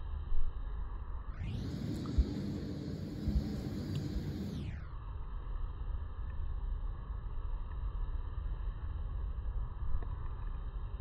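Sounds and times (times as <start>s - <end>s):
faint hum: 0.0s - 11.0s
low outdoor rumble: 0.0s - 11.0s.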